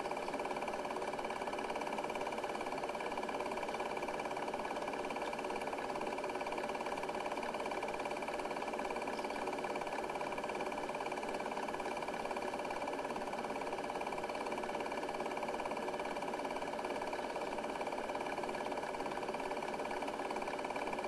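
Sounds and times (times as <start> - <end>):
film projector whirring and clattering: 0.0 - 21.0.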